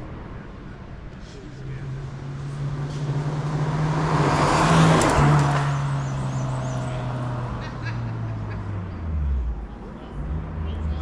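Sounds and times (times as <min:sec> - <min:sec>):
race car driving past: 0:01.2 - 0:11.0.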